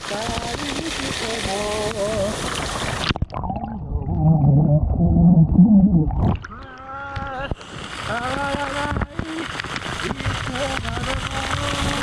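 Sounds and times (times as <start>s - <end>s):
waterfall pouring: 0.0s - 6.6s, 7.4s - 12.0s.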